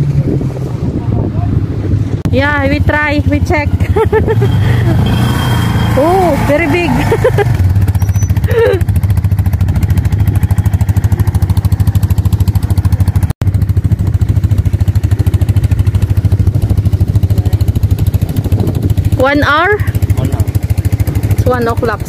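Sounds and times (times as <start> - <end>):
quad bike engine idling: 2.3 - 22.0.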